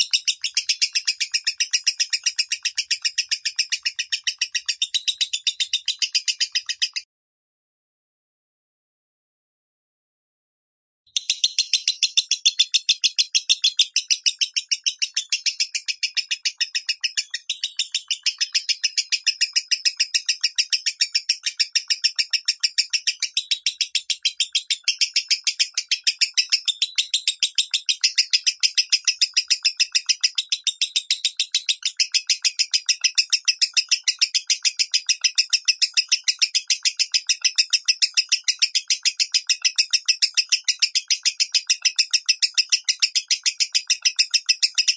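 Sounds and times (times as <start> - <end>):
lovebird chattering song: 0.0 - 7.0, 11.2 - 44.9.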